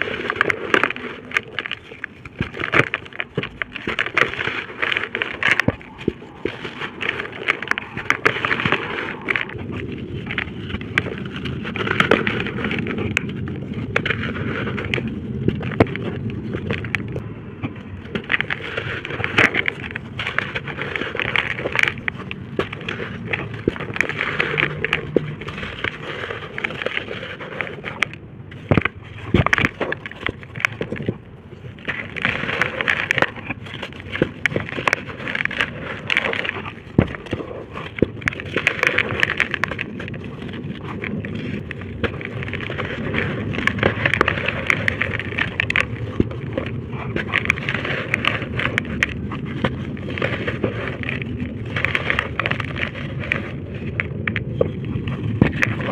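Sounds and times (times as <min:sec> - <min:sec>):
dry brick dirt crunching: 0:00.0 - 0:55.9.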